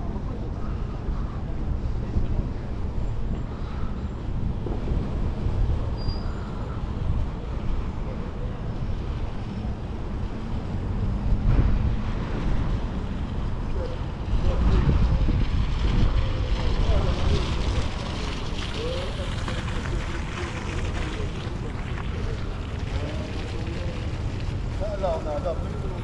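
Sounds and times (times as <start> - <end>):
faint voices: 0.0 - 26.0
wind buffeting microphone: 0.0 - 26.0.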